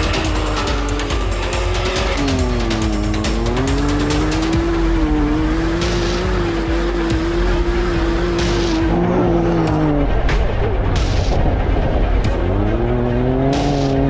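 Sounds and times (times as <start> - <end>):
engine revving high: 0.0 - 14.0.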